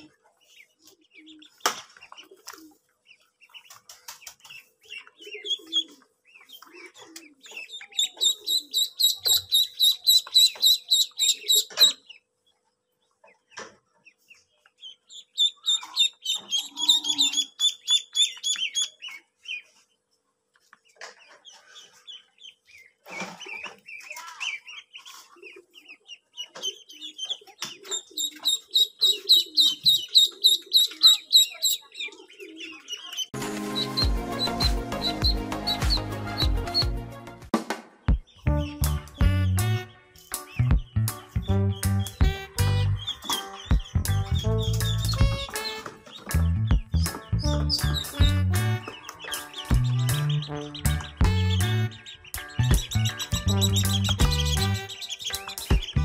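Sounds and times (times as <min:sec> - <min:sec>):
ducklings peeping: 0:00.0 - 0:37.0, 0:38.1 - 0:56.0.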